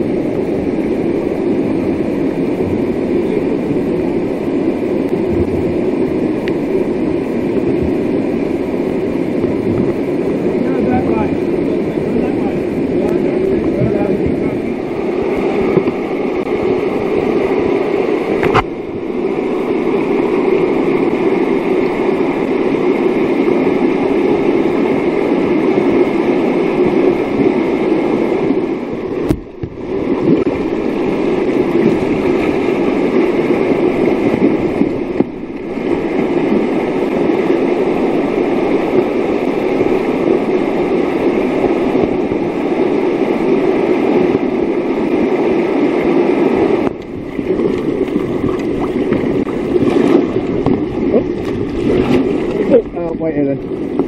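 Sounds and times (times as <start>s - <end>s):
whitewater rapids rushing: 0.0s - 54.0s.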